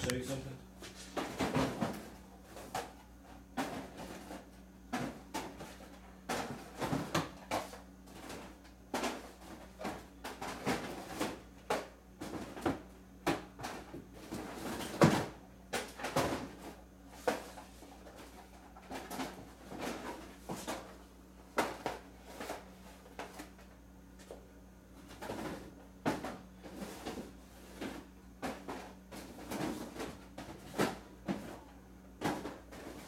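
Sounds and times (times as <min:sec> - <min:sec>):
faint steady hum: 0:00.0 - 0:33.0
rummaging knocks and rustles: 0:00.0 - 0:33.0.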